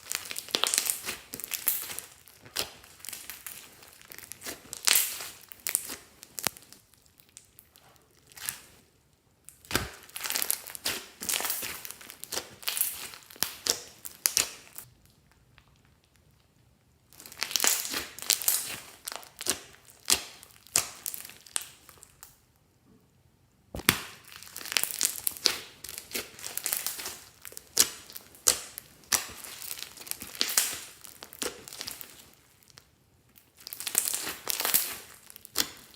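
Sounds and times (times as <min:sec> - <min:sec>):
slime squished by hand: 0:00.0 - 0:08.8, 0:09.5 - 0:16.4, 0:17.1 - 0:22.3, 0:23.8 - 0:32.8, 0:33.5 - 0:35.9.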